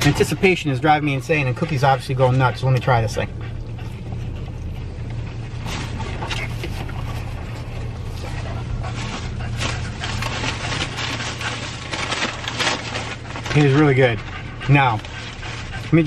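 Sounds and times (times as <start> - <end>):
car engine idling: 0.0 - 16.0
dog panting: 0.0 - 16.0.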